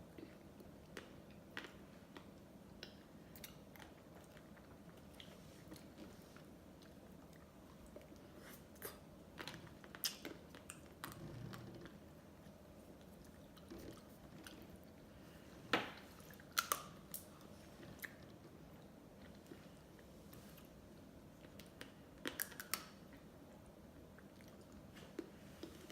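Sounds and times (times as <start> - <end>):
soft chewing: 0.0 - 25.9.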